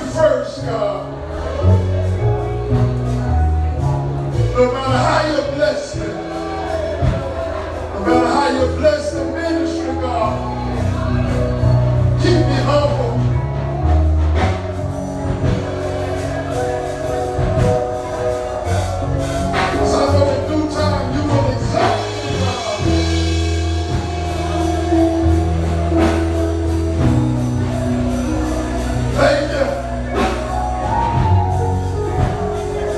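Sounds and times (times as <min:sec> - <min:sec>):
band playing with bass line: 0:00.0 - 0:32.9
voices singing: 0:00.0 - 0:32.9.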